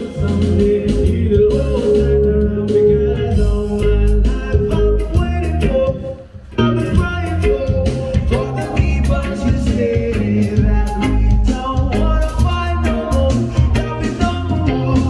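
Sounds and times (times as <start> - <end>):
song with vocals guitar and bass: 0.0 - 15.0.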